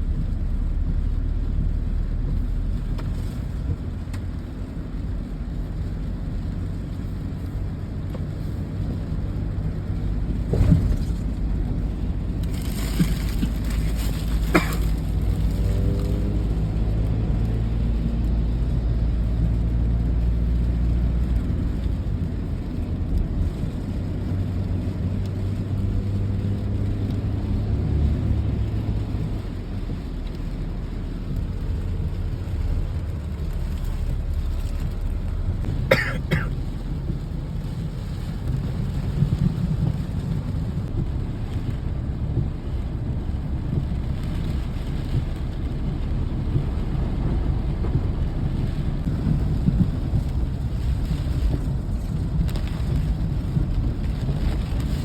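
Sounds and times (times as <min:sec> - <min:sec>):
rain: 0:00.0 - 0:55.0.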